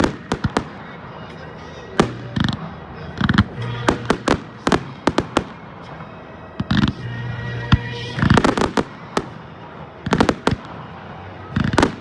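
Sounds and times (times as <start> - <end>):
fireworks bangs: 0.0 - 7.1, 7.7 - 12.0.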